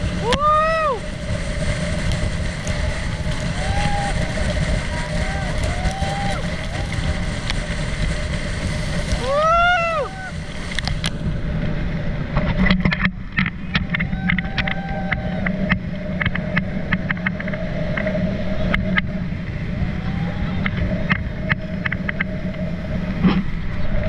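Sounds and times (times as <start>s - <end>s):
motorboat engine humming: 0.0s - 24.0s.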